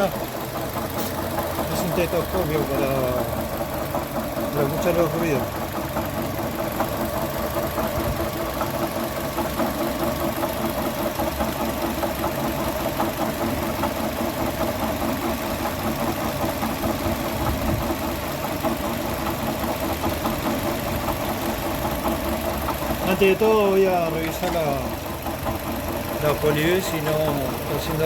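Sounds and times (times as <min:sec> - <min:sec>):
car engine idling: 0:00.0 - 0:28.0
fast steady ticking knock: 0:00.0 - 0:28.0.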